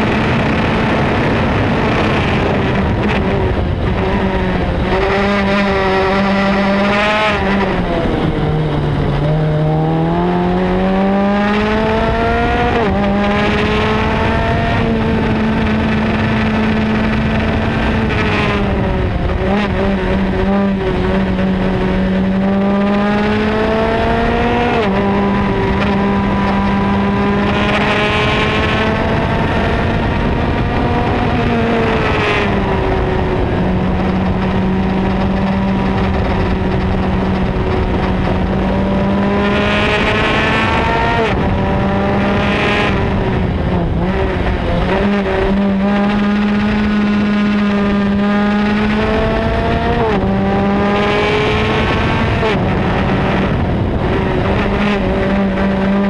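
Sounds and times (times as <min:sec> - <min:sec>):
race car engine revving: 0:00.0 - 0:56.0
rushing wind: 0:00.0 - 0:56.0.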